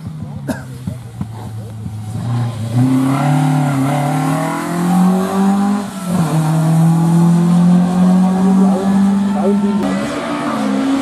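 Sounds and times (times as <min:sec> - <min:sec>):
rally car engine at full throttle: 0:00.0 - 0:11.0.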